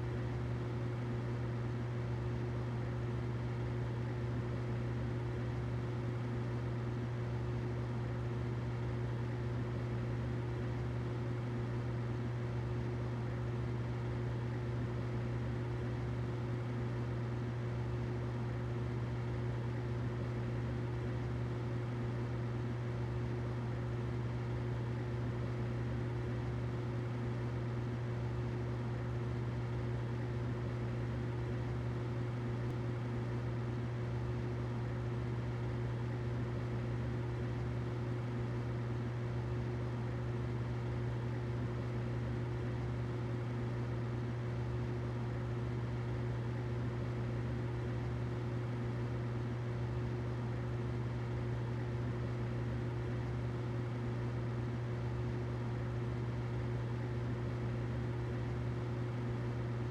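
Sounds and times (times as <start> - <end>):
humidifier running: 0.0 - 59.9.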